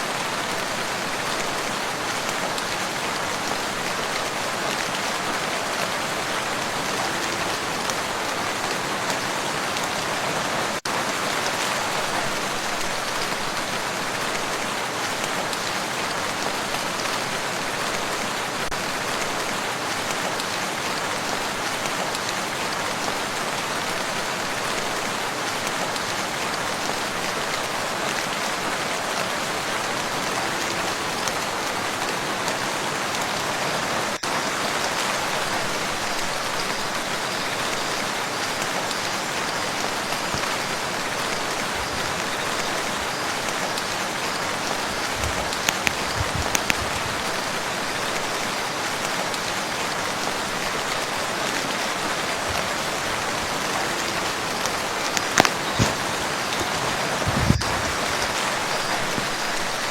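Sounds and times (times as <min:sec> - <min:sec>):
rain falling on a lake: 0:00.0 - 0:59.9.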